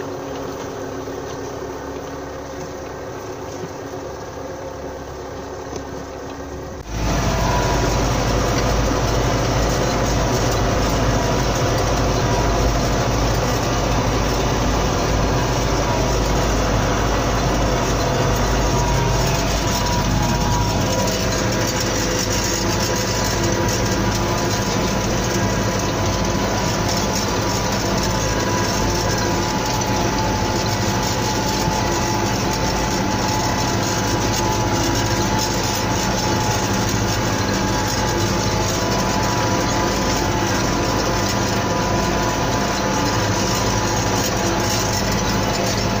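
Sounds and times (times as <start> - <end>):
steady whine: 0.0 - 46.0
tractor diesel engine under load: 0.0 - 46.0.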